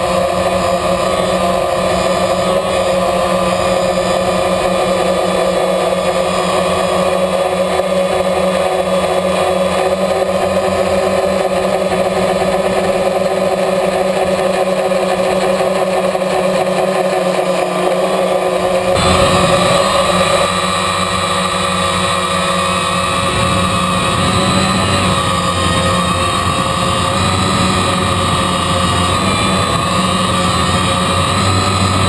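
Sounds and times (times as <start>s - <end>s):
drone propellers buzzing: 0.0s - 32.0s.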